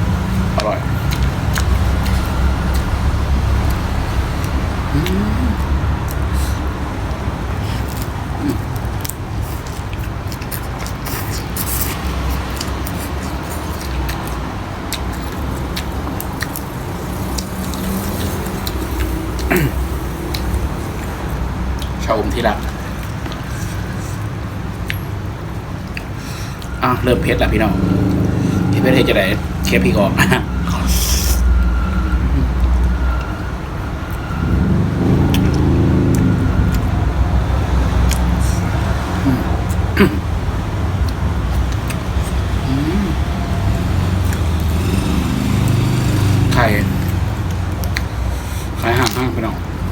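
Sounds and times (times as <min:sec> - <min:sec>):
low engine rumble: 0:00.0 - 0:09.2, 0:11.8 - 0:49.9
motor vehicle passing: 0:00.0 - 0:49.9
chewing: 0:00.2 - 0:33.4, 0:34.1 - 0:40.0, 0:40.9 - 0:49.4.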